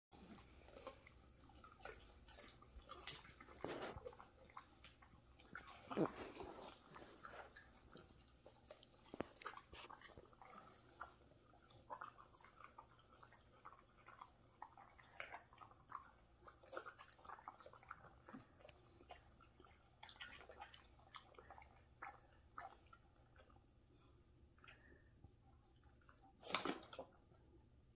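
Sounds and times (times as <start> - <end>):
dogs chewing leafy greens: 0.2 - 23.7.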